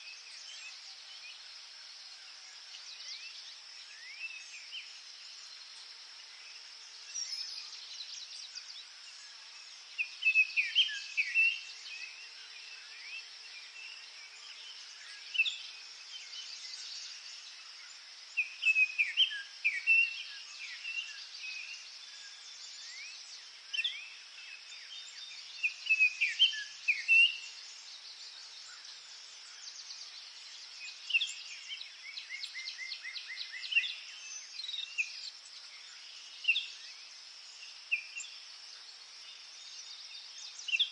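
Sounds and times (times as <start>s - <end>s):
forest ambience hiss: 0.0s - 40.9s
songbirds singing: 0.0s - 40.9s.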